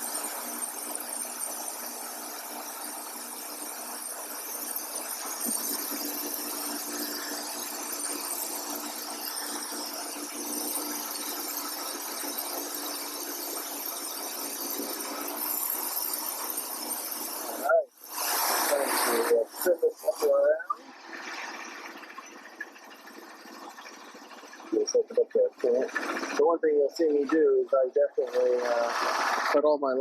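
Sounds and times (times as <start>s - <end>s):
band blade whining: 0.0s - 27.5s
sawmill engine under load: 0.0s - 30.0s.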